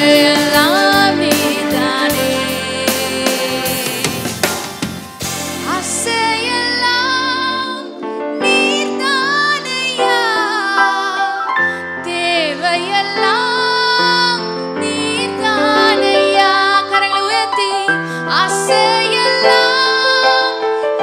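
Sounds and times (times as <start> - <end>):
woman singing into a microphone: 0.0 - 4.4, 5.6 - 21.0
held accompaniment chords: 0.0 - 20.8.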